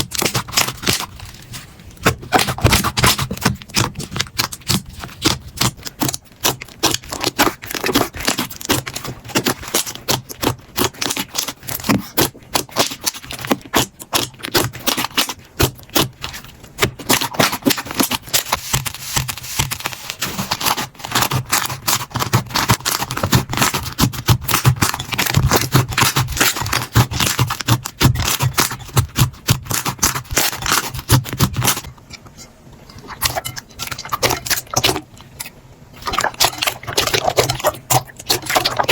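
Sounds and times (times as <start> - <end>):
slime crackling and popping: 0.0 - 1.4, 2.0 - 31.9, 33.1 - 38.9.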